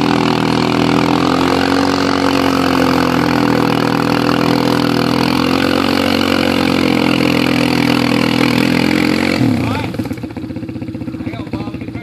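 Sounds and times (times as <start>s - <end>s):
atv engine revving hard: 0.0s - 12.0s.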